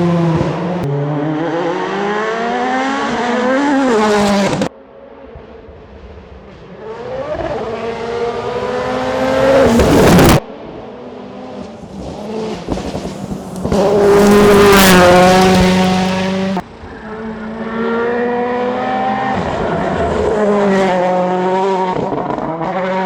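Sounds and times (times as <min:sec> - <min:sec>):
rally car engine revving: 0:00.0 - 0:04.7, 0:06.0 - 0:23.0.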